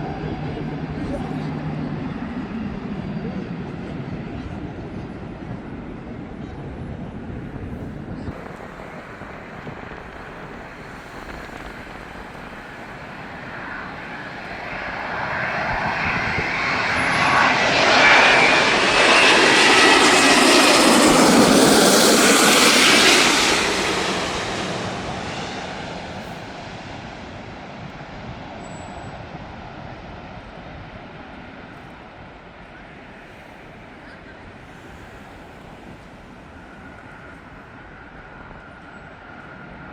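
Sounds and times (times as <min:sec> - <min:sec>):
jet airliner passing overhead: 0:00.0 - 0:39.9
jet engine whine: 0:00.0 - 0:39.9.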